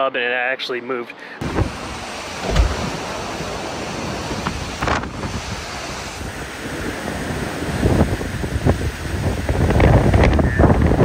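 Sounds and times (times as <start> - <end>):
storm wind buffeting microphone: 1.4 - 11.0.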